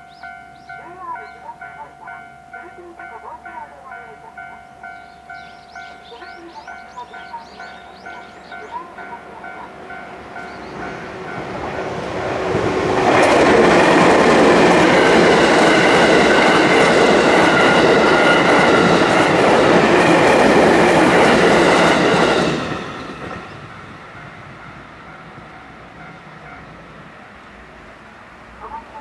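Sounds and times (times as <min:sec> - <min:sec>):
crossing warning bell: 0:00.0 - 0:27.4.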